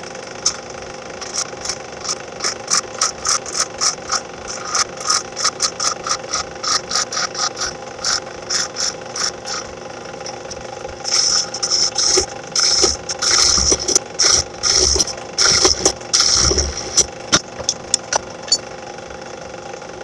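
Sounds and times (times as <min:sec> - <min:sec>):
turning tool scraping wood: 0:00.0 - 0:18.2
lathe motor humming: 0:00.0 - 0:20.0.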